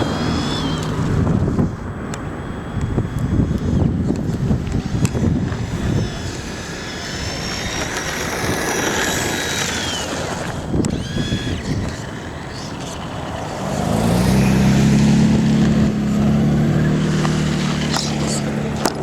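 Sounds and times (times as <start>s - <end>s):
deep steady engine hum: 0.0s - 19.0s
electric motor whining: 0.0s - 19.0s
wind buffeting microphone: 0.0s - 19.0s.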